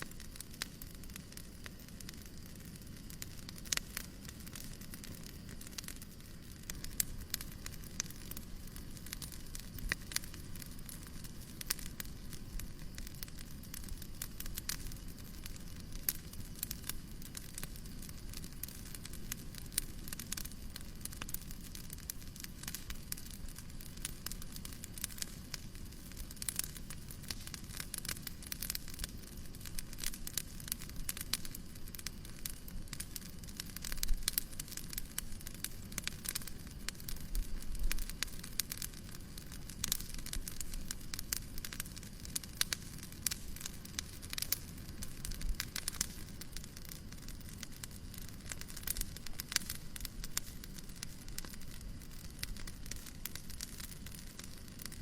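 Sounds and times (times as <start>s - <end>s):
steady hiss: 0.0s - 55.0s
wood fire crackling and popping: 0.0s - 55.0s.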